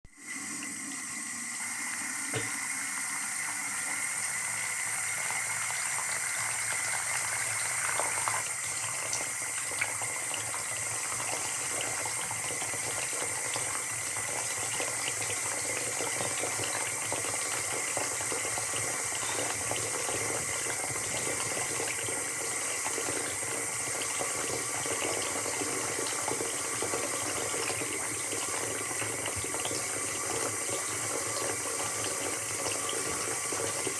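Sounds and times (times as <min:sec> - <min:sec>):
water pouring into sink: 0:00.1 - 0:33.9.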